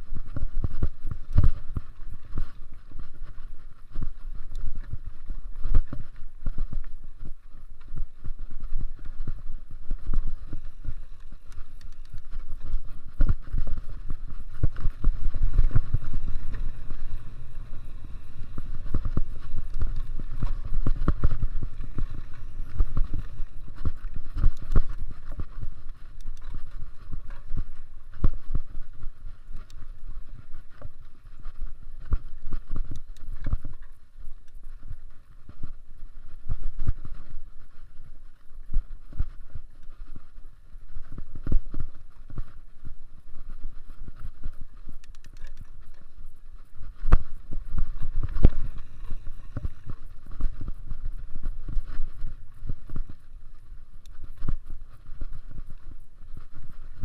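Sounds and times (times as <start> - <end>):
bike tyres rumbling on dirt: 0.0 - 45.0, 45.6 - 57.0
bike knocking and rattling: 0.1 - 35.6, 43.9 - 56.9.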